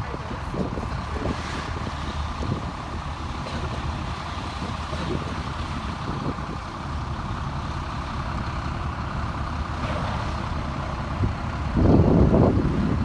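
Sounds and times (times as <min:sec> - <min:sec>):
fire engine rumbling: 0:00.0 - 0:13.0.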